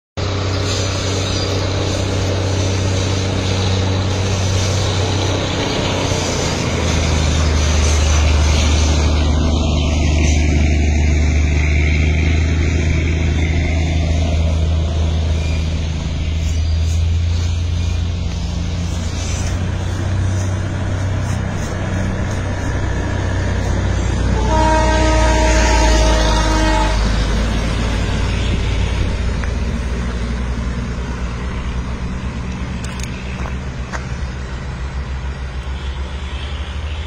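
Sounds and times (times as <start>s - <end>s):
train engine droning: 0.2s - 37.0s
train running noise: 0.2s - 37.0s.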